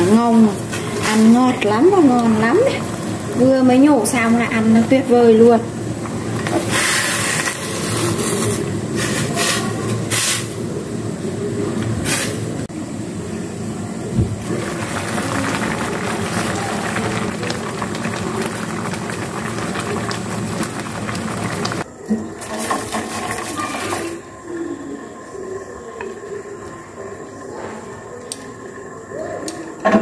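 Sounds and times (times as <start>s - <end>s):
water boiling in a pot: 0.0s - 30.0s.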